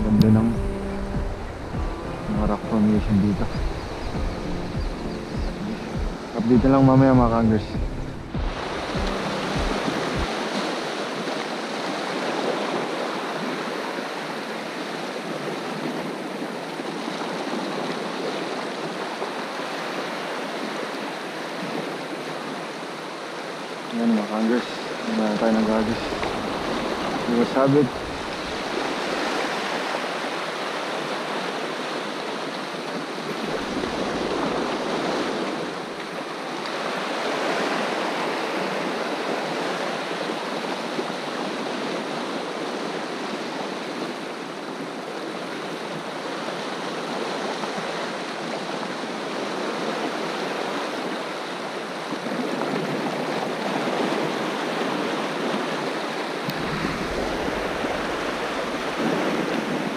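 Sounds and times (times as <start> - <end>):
sea water washing and splashing: 0.0 - 59.9.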